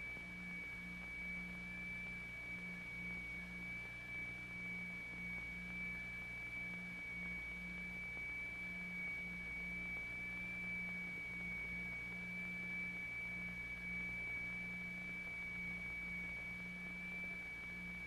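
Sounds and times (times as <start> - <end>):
fainter lower tone: 0.0 - 18.0
high electronic sine tone: 0.0 - 18.0.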